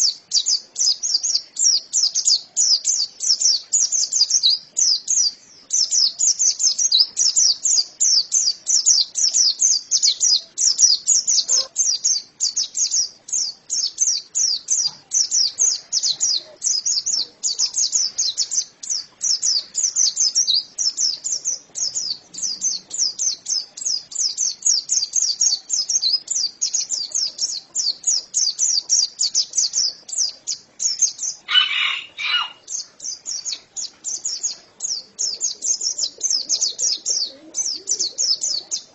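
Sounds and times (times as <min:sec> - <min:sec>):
bird singing high chirps: 0:00.0 - 0:38.9.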